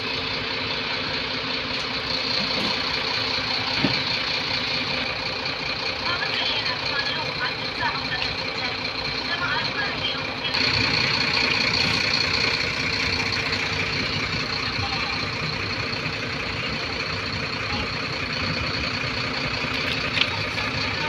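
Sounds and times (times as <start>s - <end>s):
engine idling with high whine: 0.0s - 21.0s.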